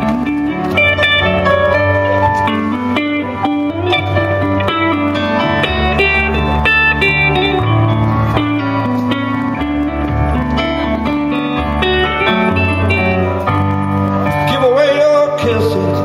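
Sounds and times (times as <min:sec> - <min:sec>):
electric guitar country blues: 0:00.0 - 0:16.0.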